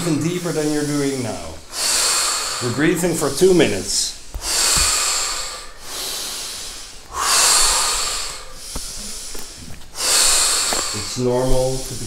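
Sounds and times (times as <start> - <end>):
deep breathing: 0.0 - 12.0.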